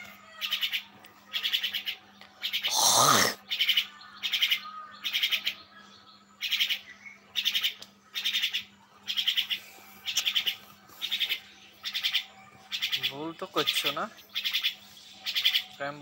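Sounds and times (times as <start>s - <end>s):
myna rasping calls: 0.0s - 5.6s, 7.4s - 15.7s.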